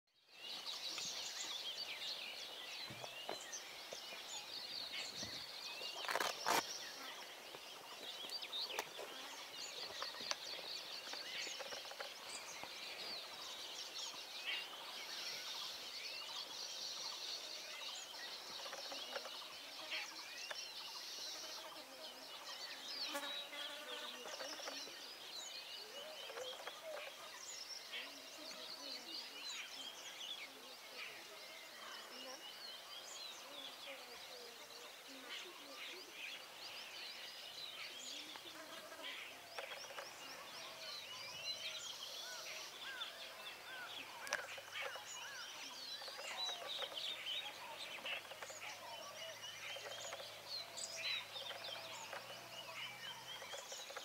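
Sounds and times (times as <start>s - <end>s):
birds chirping: 0.1s - 54.0s
insects buzzing: 0.4s - 54.0s.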